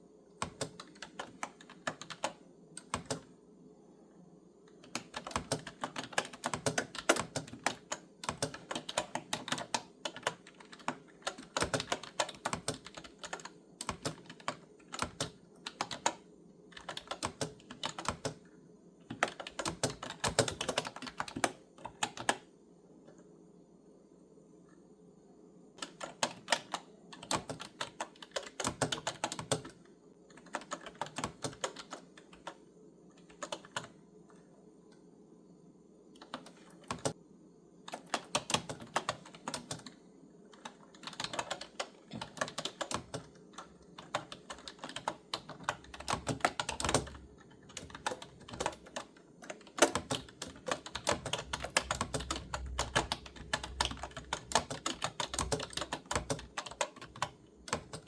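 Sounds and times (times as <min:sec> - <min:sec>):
faint steady hum: 0:00.0 - 0:58.0
clicky keyboard typing: 0:00.4 - 0:03.4, 0:04.7 - 0:18.5, 0:19.1 - 0:23.3, 0:25.8 - 0:35.0, 0:36.1 - 0:37.2, 0:37.9 - 0:58.0.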